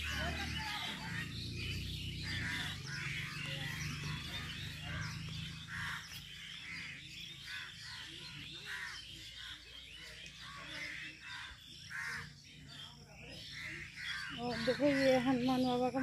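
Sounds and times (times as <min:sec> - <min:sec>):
birds calling harshly: 0:00.0 - 0:16.0.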